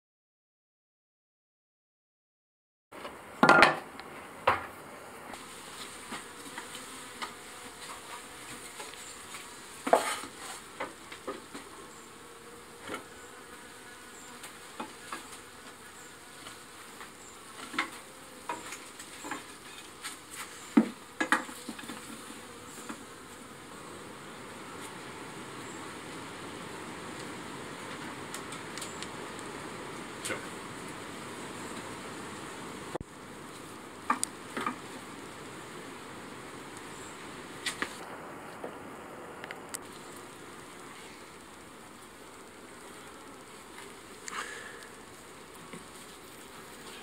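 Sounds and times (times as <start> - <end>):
honeybees buzzing: 4.0 - 47.0.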